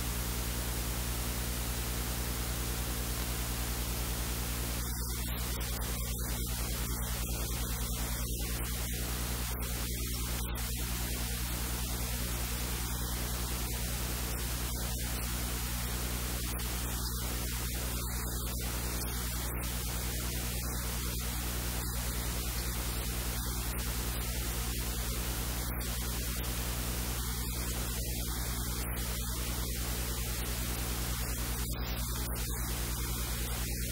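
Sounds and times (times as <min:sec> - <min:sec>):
low electrical hum: 0:00.0 - 0:33.9
static hiss: 0:00.0 - 0:33.9.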